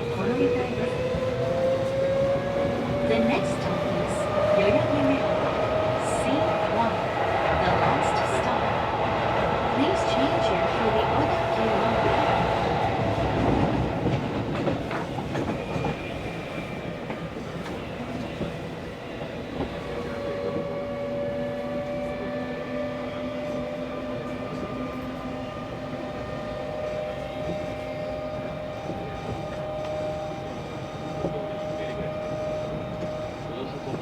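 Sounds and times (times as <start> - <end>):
wheels rumbling on rail: 0.0 - 34.0.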